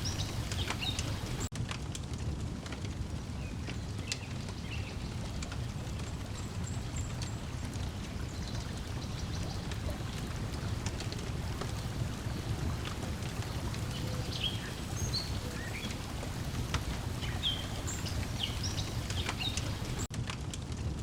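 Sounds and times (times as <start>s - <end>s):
lake water lapping at shore: 0.0s - 1.5s, 4.0s - 20.1s
wood fire crackling: 0.0s - 21.0s.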